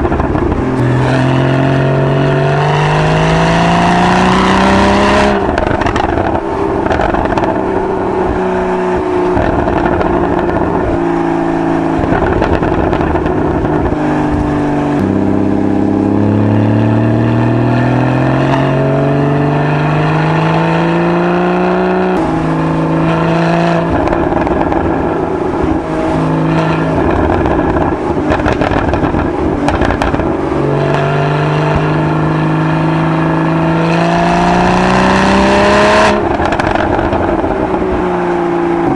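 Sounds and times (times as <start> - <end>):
car engine accelerating through gears: 0.0 - 38.9.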